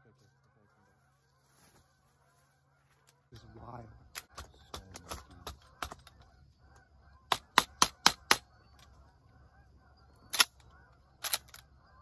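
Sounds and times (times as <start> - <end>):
geese honking in distance: 0.0 - 12.0.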